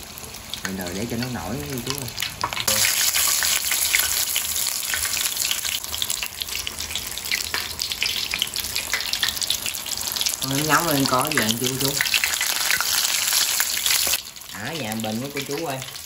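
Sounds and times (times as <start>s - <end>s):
deep-frying sizzle in oil: 0.0s - 16.0s.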